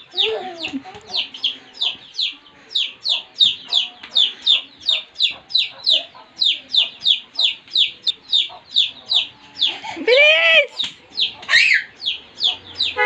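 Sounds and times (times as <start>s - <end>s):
chick peeping: 0.0s - 9.9s, 10.7s - 13.0s.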